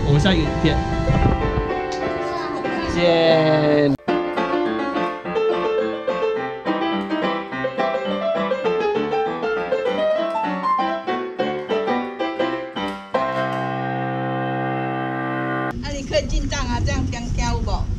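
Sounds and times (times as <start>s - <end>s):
keyboard melody: 0.0s - 15.7s.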